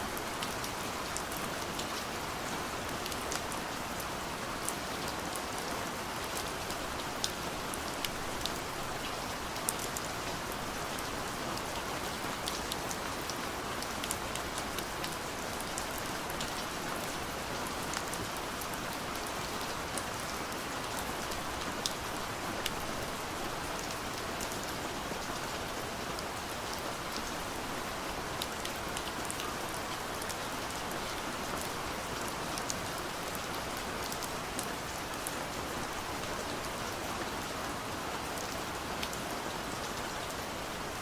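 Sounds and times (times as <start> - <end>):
soft rain on a window: 0.0 - 41.0.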